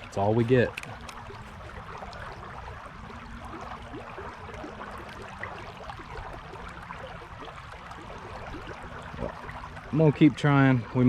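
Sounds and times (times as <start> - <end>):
creek water babbling over rocks: 0.0 - 11.0.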